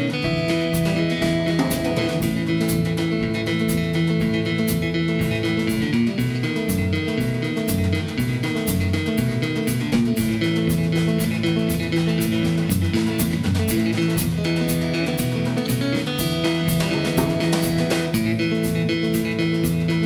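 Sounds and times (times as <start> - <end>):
drum kit beat: 0.0 - 20.0
fingerpicked acoustic guitar: 0.0 - 20.0.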